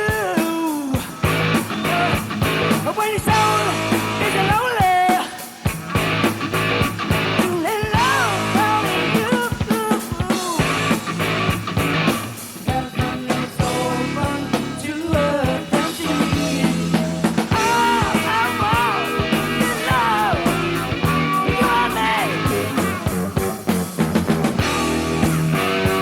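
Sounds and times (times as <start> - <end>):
hard rock band playing: 0.0 - 26.0
high bending guitar melody: 1.1 - 4.8, 5.7 - 9.4, 10.6 - 26.0.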